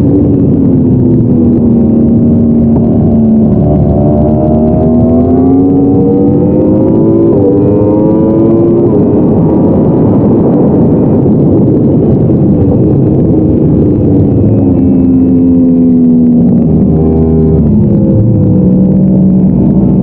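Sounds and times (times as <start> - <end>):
loud rushing wind noise: 0.0 - 20.0
motorcycle engine at full throttle: 0.0 - 20.0.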